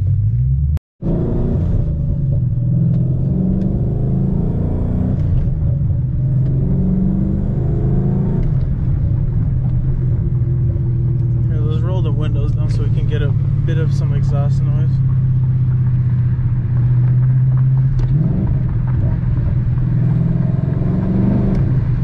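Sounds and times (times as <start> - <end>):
car engine running while driving: 0.0 - 22.0.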